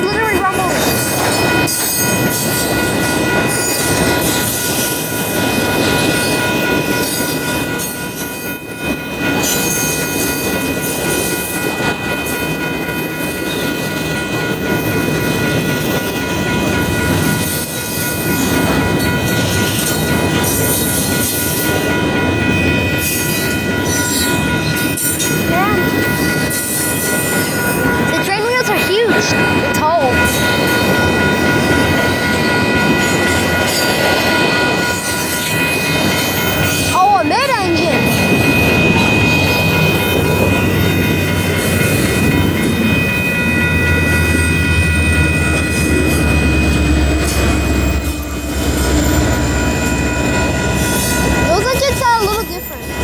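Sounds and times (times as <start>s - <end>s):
freight train wheels rumbling: 0.0s - 53.0s
high wheel squeal on rails: 0.1s - 53.0s.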